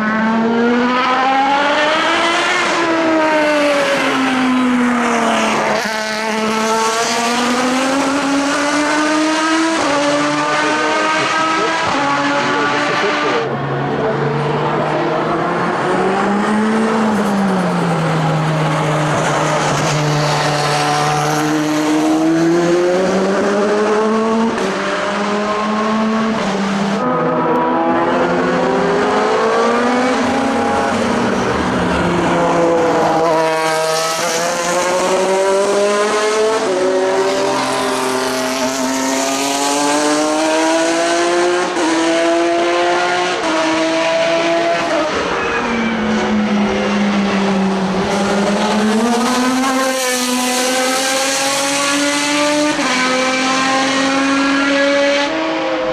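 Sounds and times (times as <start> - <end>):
racing car engines accelerating: 0.0 - 55.9.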